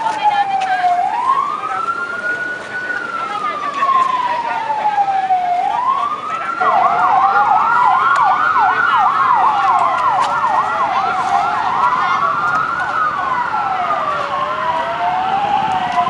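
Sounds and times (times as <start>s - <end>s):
siren fast yelp: 0.0s - 16.0s
siren slow wail: 0.0s - 16.0s.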